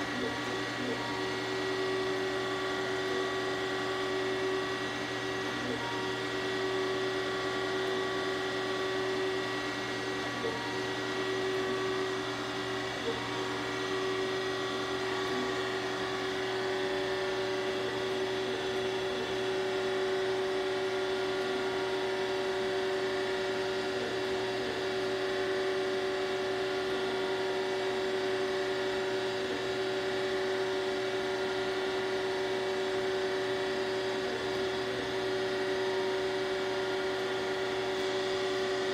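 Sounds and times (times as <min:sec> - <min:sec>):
surface grinder motor whine: 0:00.0 - 0:38.9.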